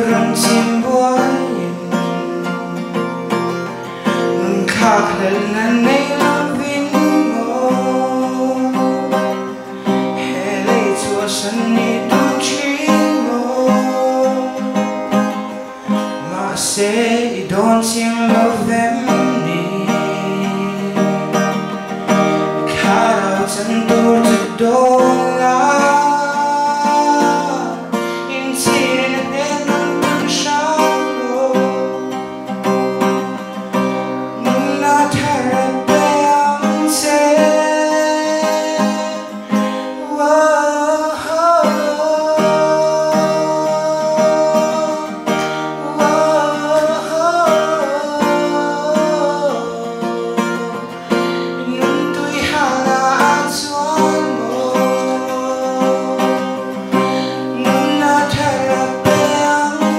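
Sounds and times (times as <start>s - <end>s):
boy singing into a microphone: 0.0s - 2.8s, 4.3s - 21.8s, 22.4s - 32.4s, 34.2s - 59.9s
acoustic guitar strumming: 0.0s - 59.9s.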